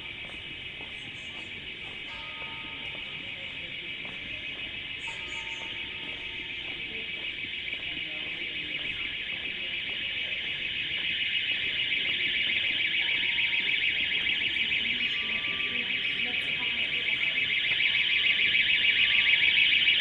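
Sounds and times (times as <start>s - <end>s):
electric alarm ringing: 2.0s - 20.0s.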